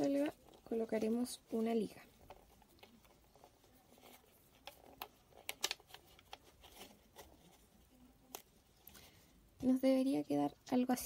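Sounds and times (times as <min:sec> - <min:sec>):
plastic bottle crinkling: 0:00.0 - 0:09.2.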